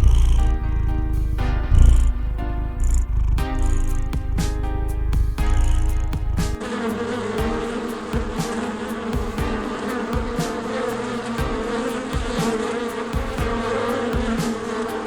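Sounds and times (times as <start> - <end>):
insect buzzing: 2.8 - 15.0.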